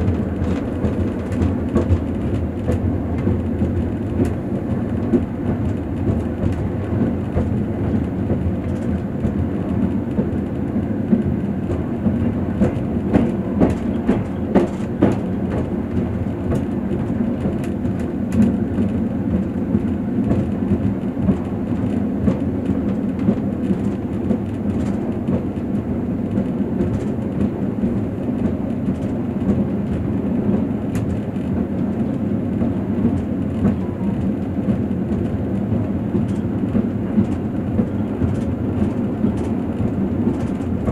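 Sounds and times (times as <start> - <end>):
train rumble inside carriage: 0.0 - 40.9.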